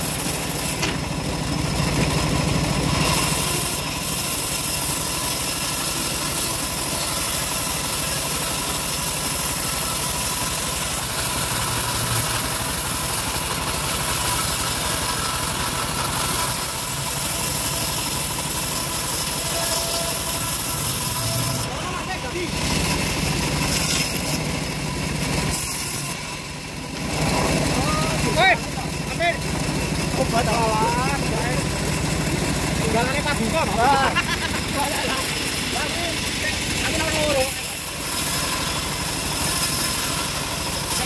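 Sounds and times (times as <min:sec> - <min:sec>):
bandsaw mill sawing timber: 0:00.0 - 0:41.0.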